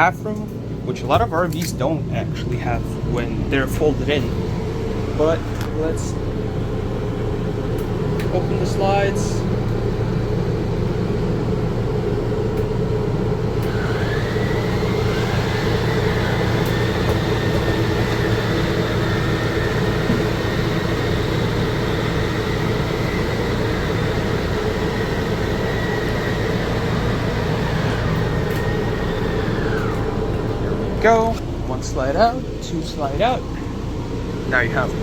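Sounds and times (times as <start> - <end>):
electric motors whining: 0.0 - 35.0
low hum: 0.0 - 35.0.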